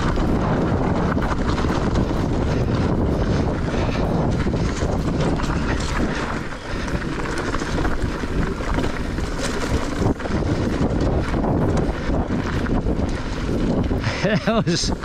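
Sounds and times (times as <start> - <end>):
mountain bike rumbling and rattling: 0.0 - 15.0
wind buffeting microphone: 0.0 - 15.0.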